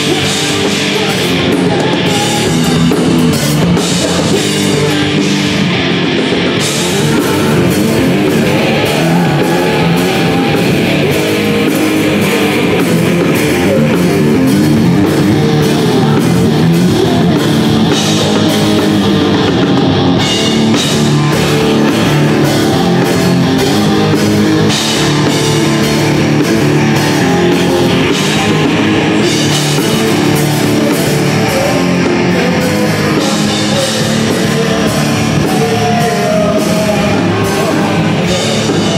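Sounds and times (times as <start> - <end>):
regular drum beat: 0.0 - 38.9
rock band playing live: 0.0 - 38.9.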